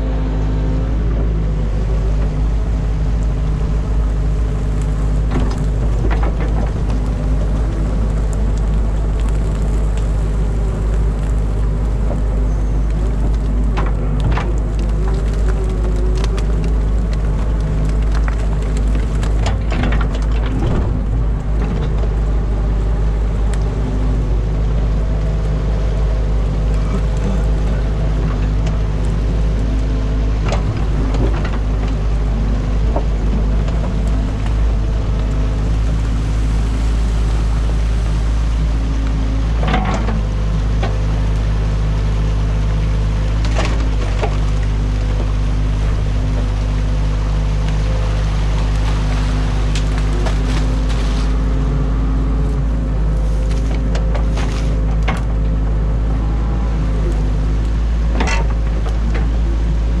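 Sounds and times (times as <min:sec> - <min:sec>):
diesel engine running under load: 0:00.0 - 1:00.0.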